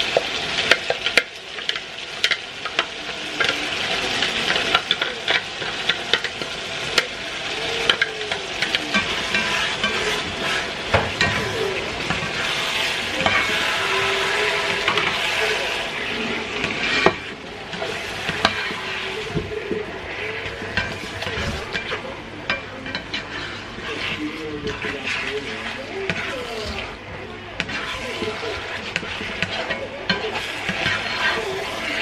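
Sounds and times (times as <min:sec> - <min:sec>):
spatula scraping and knocking pan: 0:00.0 - 0:07.2, 0:07.8 - 0:32.0
peppers sizzling in a frying pan: 0:00.0 - 0:32.0.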